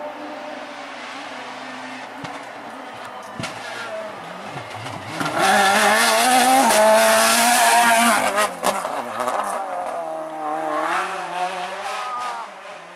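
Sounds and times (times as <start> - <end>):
rally car engine passing by: 0.0 - 12.9.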